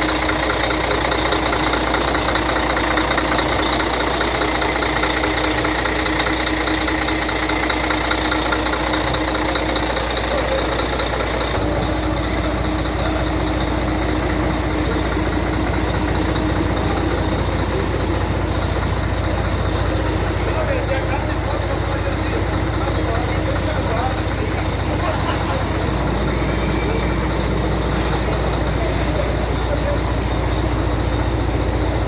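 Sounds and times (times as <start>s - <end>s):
truck diesel engine idling: 0.0s - 32.0s.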